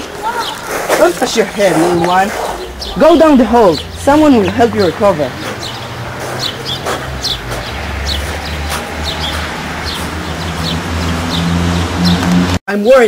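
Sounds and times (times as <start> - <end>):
small birds chirping: 0.0 - 13.0
low outdoor rumble: 0.6 - 12.6.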